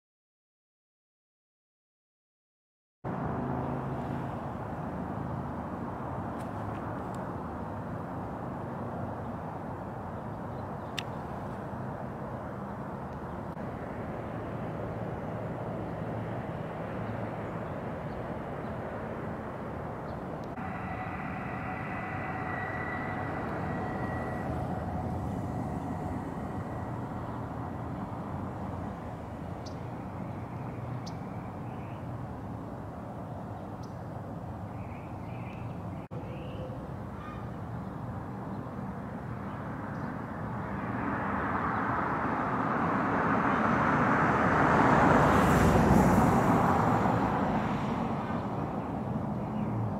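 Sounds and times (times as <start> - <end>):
vehicle approaching: 3.1 - 10.4, 11.0 - 34.6, 39.6 - 49.9
distant traffic hum: 3.1 - 49.9.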